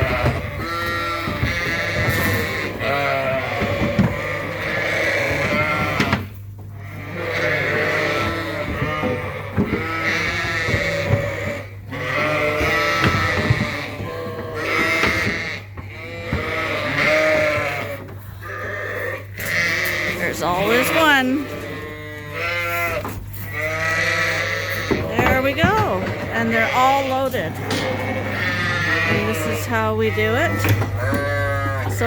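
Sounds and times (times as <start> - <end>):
sheep bleating: 0.0 - 32.0.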